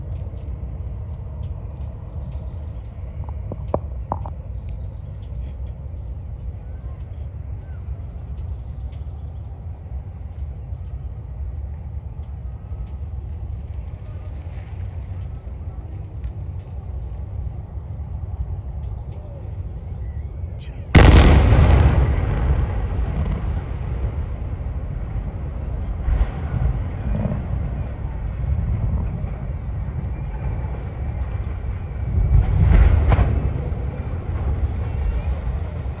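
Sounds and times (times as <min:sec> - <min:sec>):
faint ticks: 0:00.0 - 0:21.1, 0:26.1 - 0:35.4
low rumble: 0:00.0 - 0:36.0.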